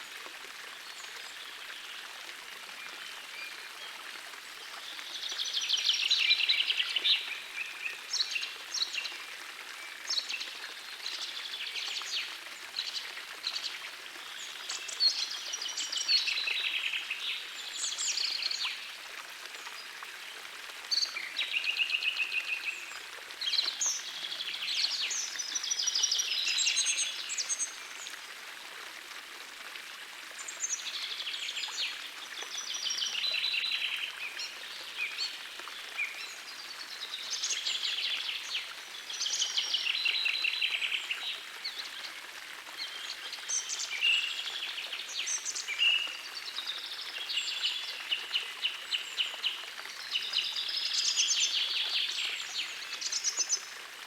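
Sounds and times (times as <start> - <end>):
forest stream rushing: 0.0 - 54.0.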